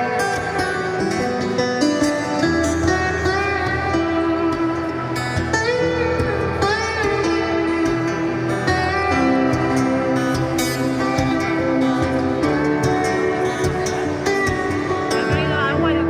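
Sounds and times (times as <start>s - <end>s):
electric guitar lead with bends: 0.0s - 16.0s
live rock band playing: 0.0s - 16.0s.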